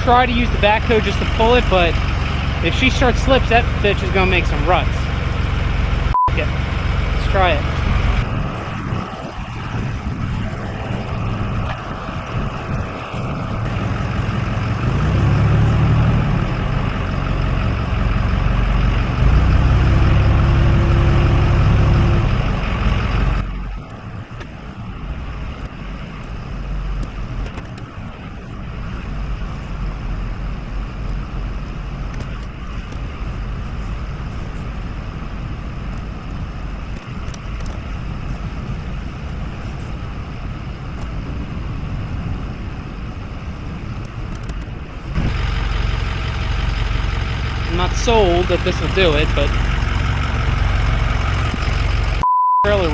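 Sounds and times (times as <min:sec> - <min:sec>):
vehicle engine straining: 0:00.0 - 0:52.9.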